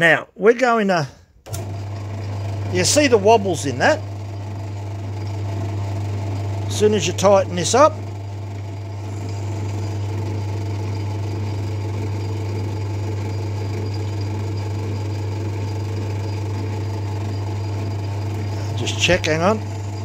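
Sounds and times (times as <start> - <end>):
lathe running with steady hum: 1.5 - 20.0.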